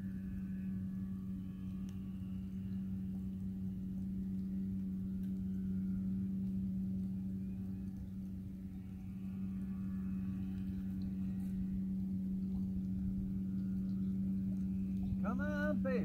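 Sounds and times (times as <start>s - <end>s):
low rumble: 0.0s - 16.0s
motor humming: 0.0s - 16.0s.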